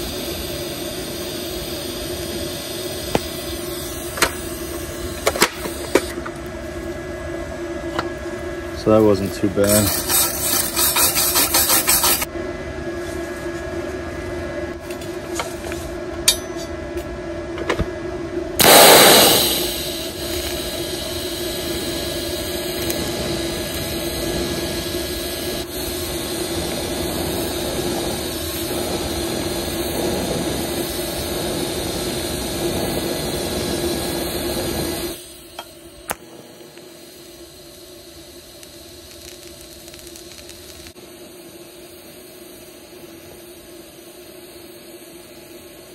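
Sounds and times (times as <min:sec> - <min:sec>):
welding arc crackling: 0:00.0 - 0:06.9, 0:08.8 - 0:12.3, 0:18.6 - 0:45.9
welding arc hiss and buzz: 0:00.0 - 0:12.3, 0:18.5 - 0:45.9
welder hum: 0:00.0 - 0:45.9.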